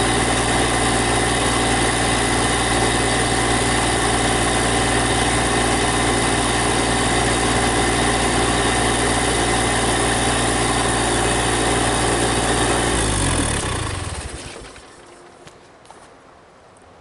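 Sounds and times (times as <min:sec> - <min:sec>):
tractor engine idling and stopping: 0:00.0 - 0:15.4.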